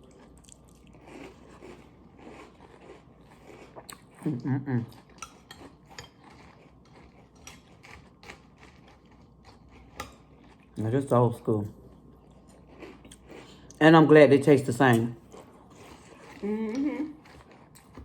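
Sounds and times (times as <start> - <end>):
crunchy food chewing: 0.0 - 10.8, 11.9 - 13.8, 15.2 - 18.0.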